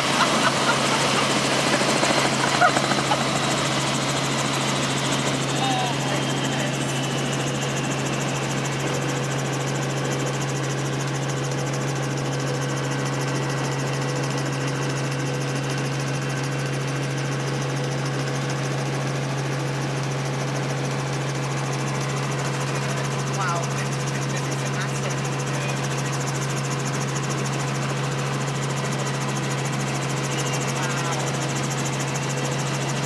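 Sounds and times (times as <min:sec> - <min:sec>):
helicopter engine and rotors: 0:00.0 - 0:33.0.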